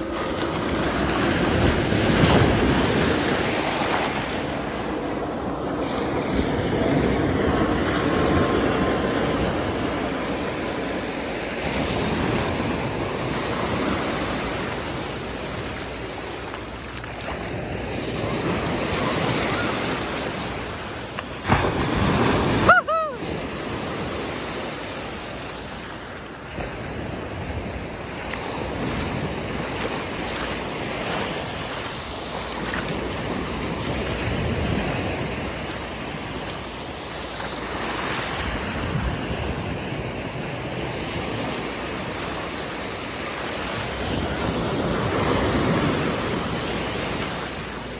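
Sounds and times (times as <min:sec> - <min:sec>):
small waves washing on sand: 0:00.0 - 0:47.9
wind on microphone: 0:00.0 - 0:47.9.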